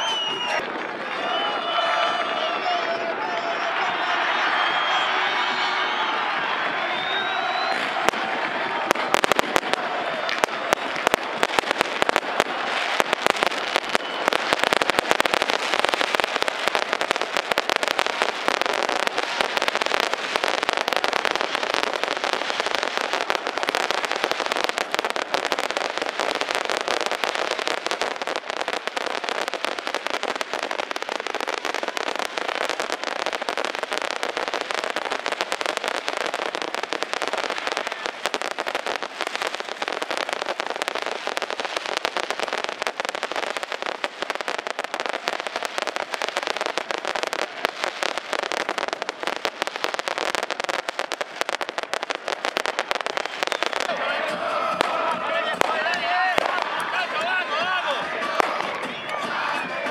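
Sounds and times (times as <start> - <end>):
firecrackers crackling: 0.0 - 59.9.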